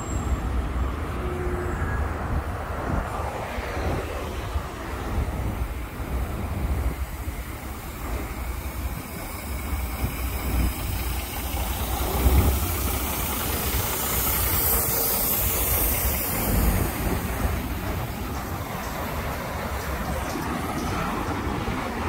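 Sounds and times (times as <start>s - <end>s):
cars passing: 0.0s - 22.0s
truck diesel engine passing: 0.0s - 22.0s.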